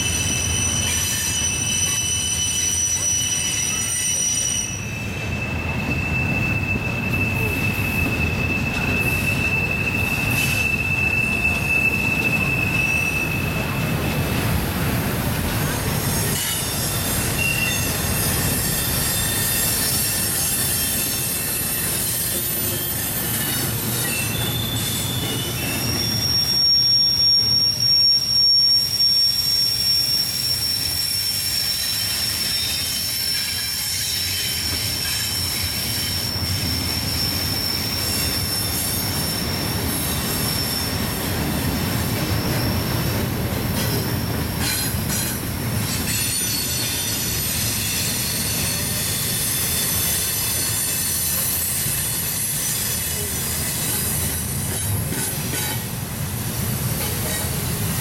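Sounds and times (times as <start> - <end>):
wheel flanges squealing: 0.0 - 14.8, 15.4 - 56.0
freight train wheels rumbling: 0.0 - 58.0.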